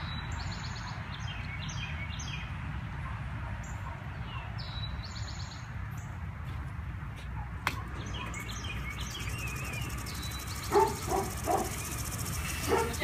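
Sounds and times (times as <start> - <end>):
songbirds chirping: 0.0 - 2.6, 3.6 - 13.0.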